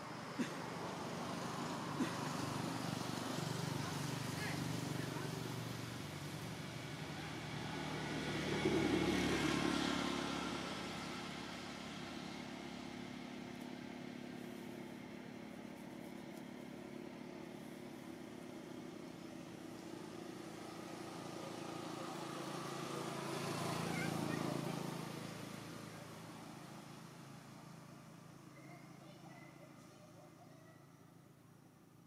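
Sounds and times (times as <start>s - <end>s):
vehicle passing by: 0.0s - 15.5s, 16.2s - 30.4s
vehicle approaching: 0.0s - 31.9s.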